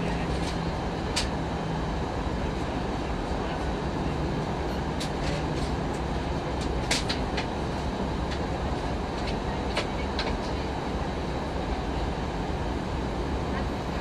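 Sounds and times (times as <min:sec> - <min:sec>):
airplane engine rumble: 0:00.0 - 0:14.0.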